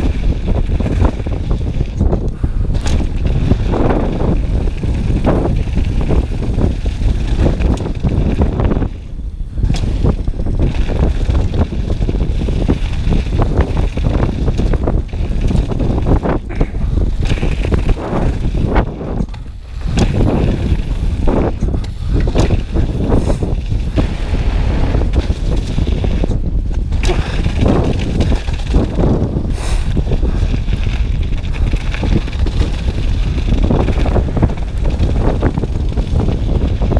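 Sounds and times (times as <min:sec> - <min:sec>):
bike rattling over bumps: 0:00.0 - 0:36.9
tyres on loose gravel: 0:00.0 - 0:36.9
wind rushing over microphone: 0:00.0 - 0:36.9.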